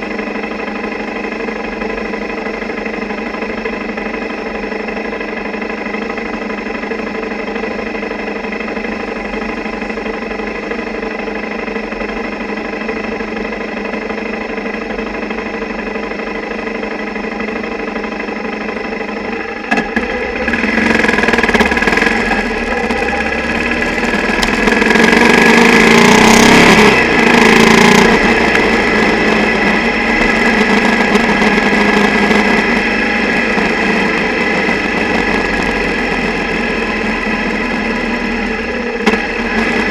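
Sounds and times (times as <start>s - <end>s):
motorcycle engine vibration: 0.0s - 39.9s.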